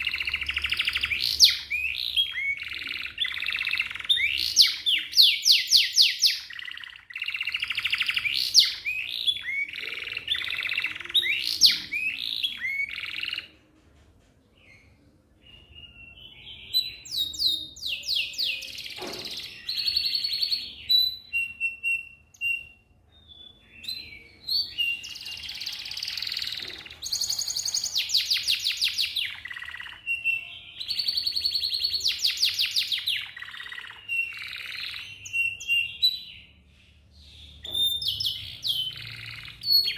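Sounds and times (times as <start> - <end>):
canary singing: 0.0 - 13.6, 14.6 - 39.9.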